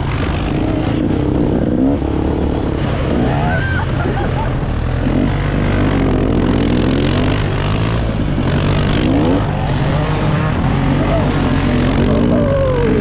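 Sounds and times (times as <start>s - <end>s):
engine revving: 0.0s - 13.0s
engine steady low drone: 0.0s - 13.0s.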